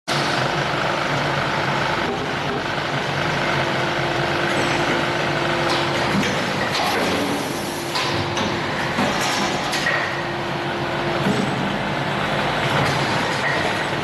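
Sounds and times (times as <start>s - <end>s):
loud machinery hum: 0.1s - 14.0s.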